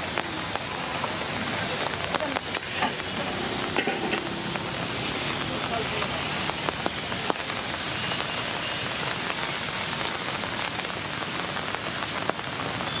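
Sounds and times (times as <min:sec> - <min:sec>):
raindrops tapping: 0:00.0 - 0:13.0
steady rain hiss: 0:00.0 - 0:13.0.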